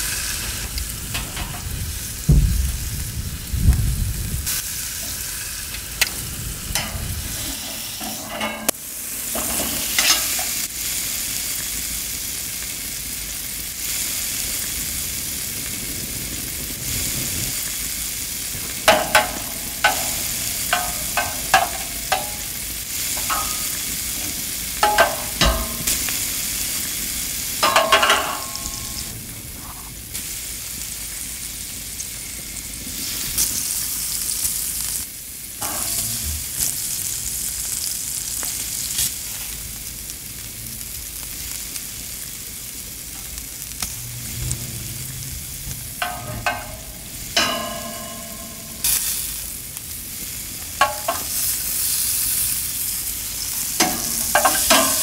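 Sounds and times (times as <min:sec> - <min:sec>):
steak sizzling on a grill: 0:00.0 - 0:55.0.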